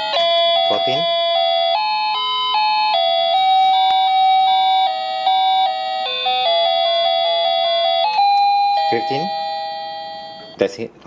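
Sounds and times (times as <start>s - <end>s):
electronic doorbell melody: 0.0s - 10.6s.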